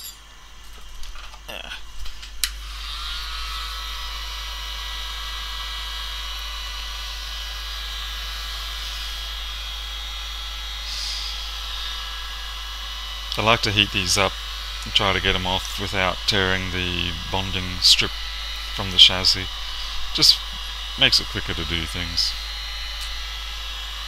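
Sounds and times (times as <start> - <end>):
heat gun fan blowing: 1.9 - 24.0.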